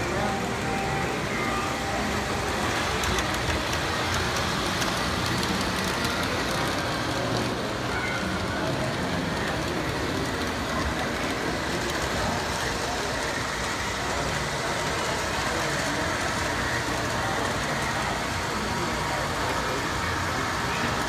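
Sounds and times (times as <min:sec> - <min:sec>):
model train wheels rattling on rail: 0:00.0 - 0:21.0.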